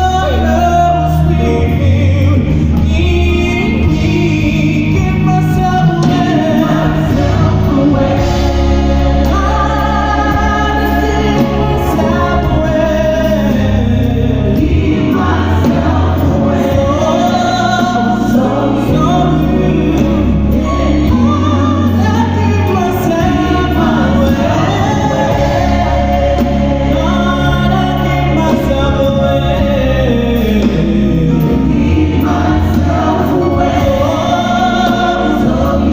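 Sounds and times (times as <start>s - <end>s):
amplified band accompaniment: 0.0s - 35.9s
gospel choir singing: 0.0s - 35.9s
strong bass line: 0.0s - 35.9s.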